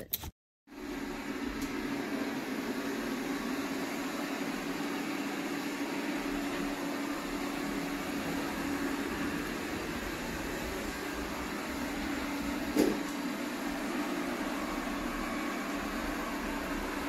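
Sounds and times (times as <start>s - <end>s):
robot vacuum whirring: 0.8s - 17.0s.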